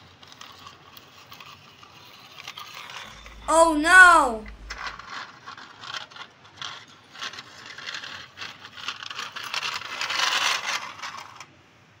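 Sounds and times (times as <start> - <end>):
toy car wheels scraping concrete: 0.0 - 3.1, 4.8 - 11.5.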